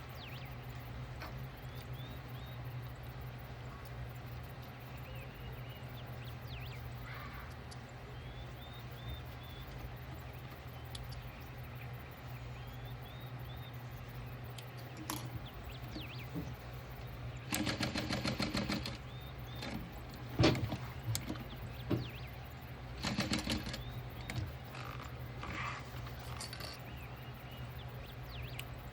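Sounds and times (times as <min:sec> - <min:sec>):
faint bird chirps: 0:00.0 - 0:28.9.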